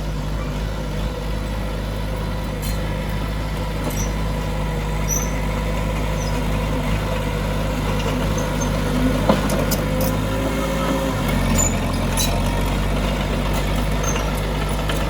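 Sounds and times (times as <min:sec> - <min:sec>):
heavy diesel machinery humming: 0:00.0 - 0:15.0.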